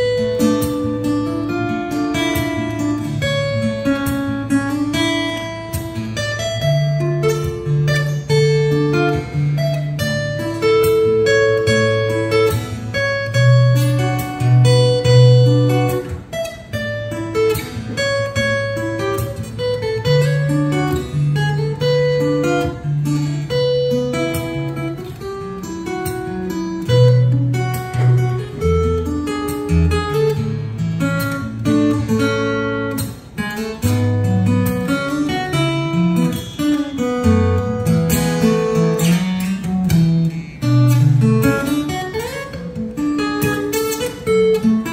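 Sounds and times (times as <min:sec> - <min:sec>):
fingerstyle acoustic guitar: 0:00.0 - 0:44.9.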